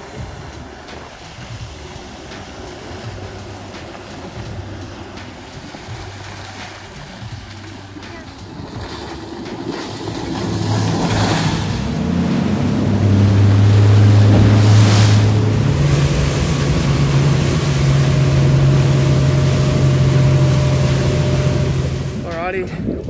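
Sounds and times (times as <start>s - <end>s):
spray rush: 0.0s - 22.3s
water rushing: 0.0s - 22.9s
outboard motor hum: 0.0s - 23.0s
wind noise: 0.0s - 23.0s.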